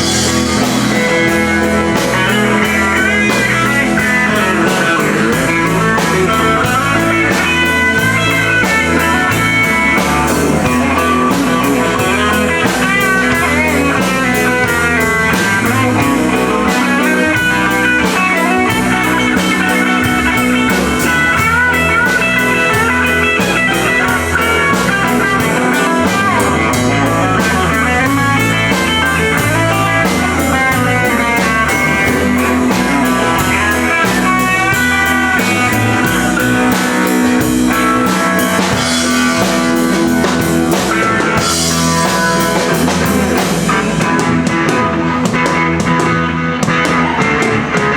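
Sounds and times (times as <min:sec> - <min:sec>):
drum kit beat: 0:00.0 - 0:47.9
guitar lead line: 0:00.0 - 0:47.9
walking bass: 0:00.0 - 0:47.9.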